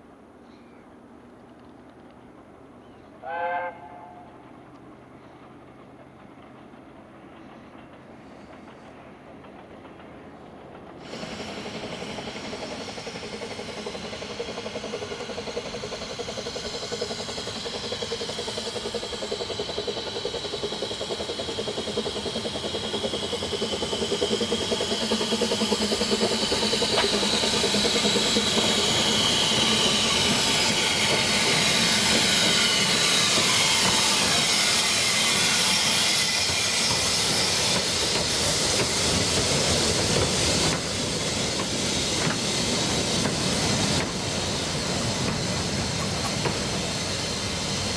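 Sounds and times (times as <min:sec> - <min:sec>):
steam train running: 0:00.0 - 0:47.9
steam hissing: 0:08.2 - 0:47.9.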